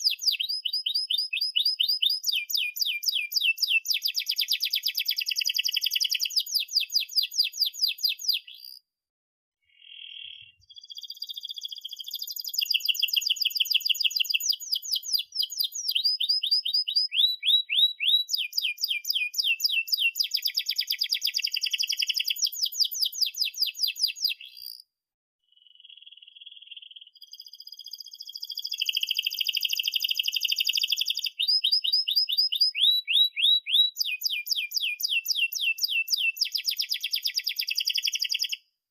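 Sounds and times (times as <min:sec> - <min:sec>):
canary singing trills: 0:00.0 - 0:08.8, 0:09.6 - 0:24.8, 0:25.5 - 0:38.6.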